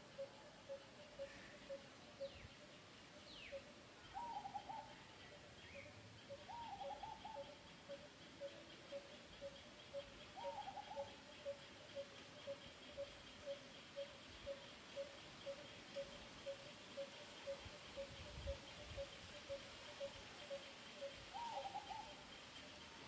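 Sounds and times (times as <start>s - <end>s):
bird fast high pulsing call: 3.4s - 23.0s.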